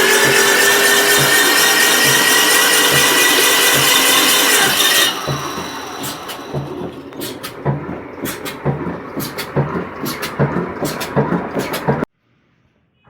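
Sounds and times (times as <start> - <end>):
diesel engine thudding: 0.0 - 12.1.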